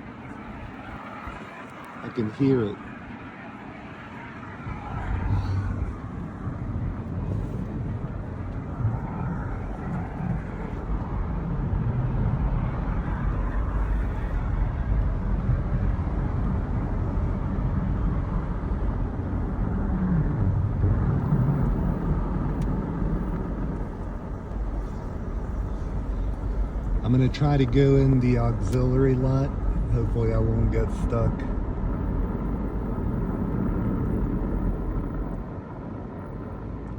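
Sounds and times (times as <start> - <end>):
vehicle low rumble: 0.0 - 36.9.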